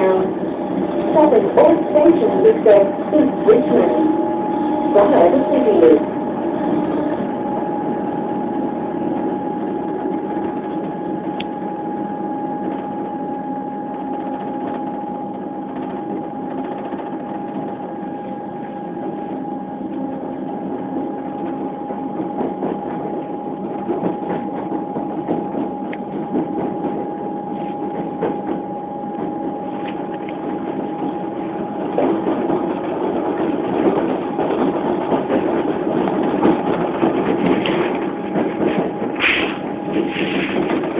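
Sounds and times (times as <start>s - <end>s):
train motor whine: 0.0s - 40.9s
wheels rumbling on track: 0.0s - 40.9s.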